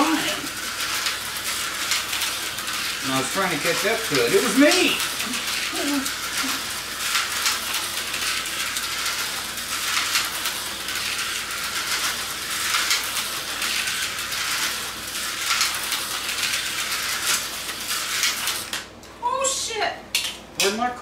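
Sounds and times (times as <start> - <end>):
slot cars buzzing rattle: 0.0 - 19.0.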